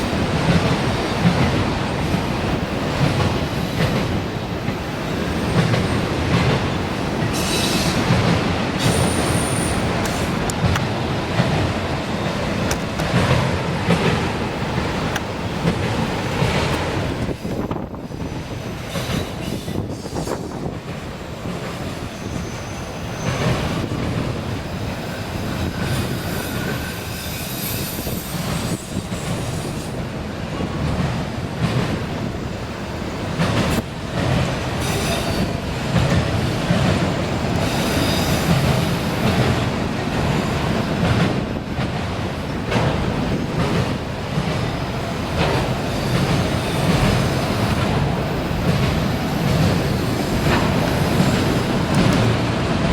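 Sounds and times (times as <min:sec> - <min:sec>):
train wheels rumbling and clattering: 0:00.0 - 0:52.9.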